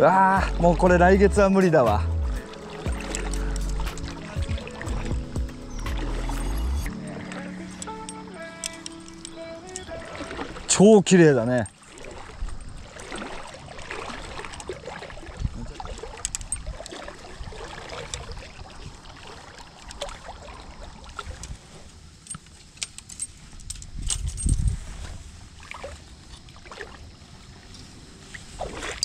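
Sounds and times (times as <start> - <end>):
footsteps squelching through water and mud: 0.0 - 29.0.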